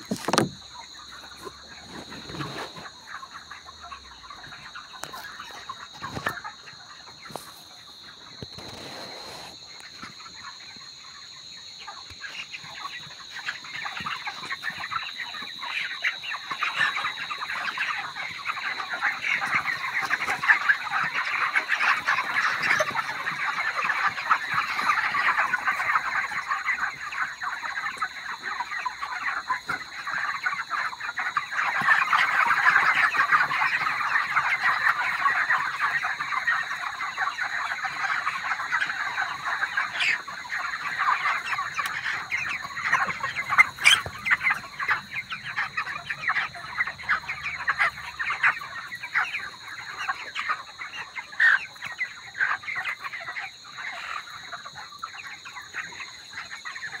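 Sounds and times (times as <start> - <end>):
chickens chirping and clucking: 0.0 - 57.0.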